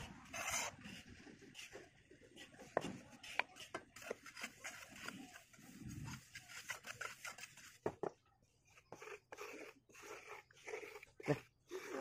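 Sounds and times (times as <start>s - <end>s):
trowel scraping and tapping mortar: 0.0s - 12.0s.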